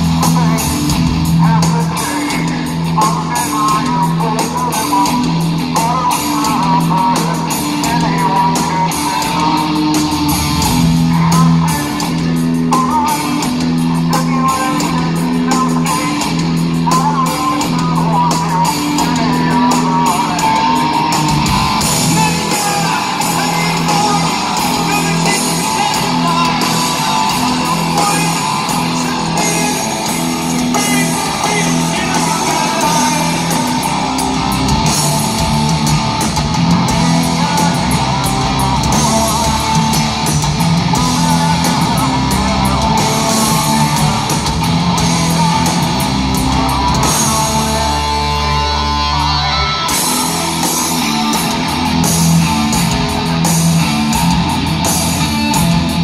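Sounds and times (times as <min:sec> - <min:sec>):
drums: 0:00.0 - 0:56.0
electric guitar riff: 0:00.0 - 0:56.0
rock band playing live: 0:00.0 - 0:56.0.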